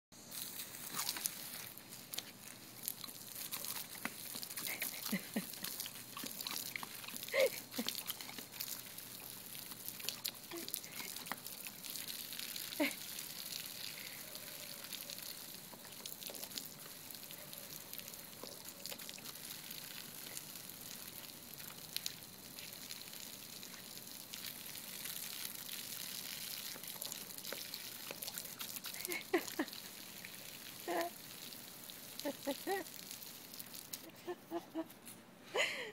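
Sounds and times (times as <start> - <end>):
hose water spattering: 0.2 - 34.2.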